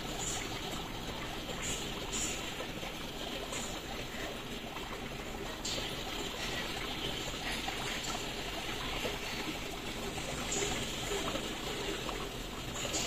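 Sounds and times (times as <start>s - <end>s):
water drips and plops: 0.0s - 13.0s
water trickling and splashing: 0.0s - 13.0s.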